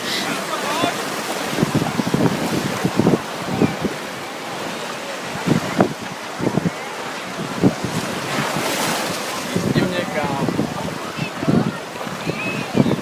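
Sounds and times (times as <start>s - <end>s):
surf washing: 0.0s - 13.0s
wind buffeting microphone: 0.8s - 13.0s.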